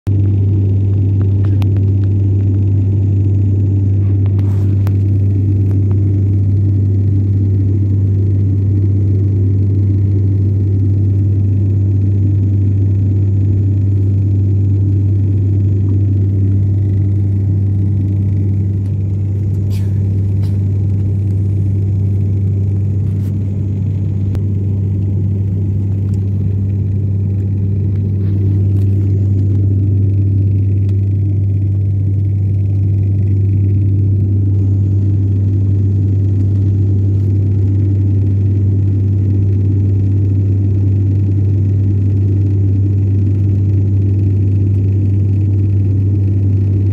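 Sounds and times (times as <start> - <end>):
airliner cabin drone: 0.1 - 46.9.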